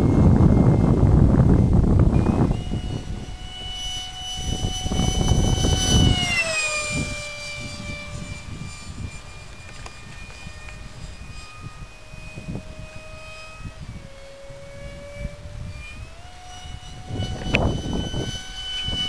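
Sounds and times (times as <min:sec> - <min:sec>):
model jet fan whine: 0:00.0 - 0:19.0
wind buffeting microphone: 0:00.0 - 0:19.0.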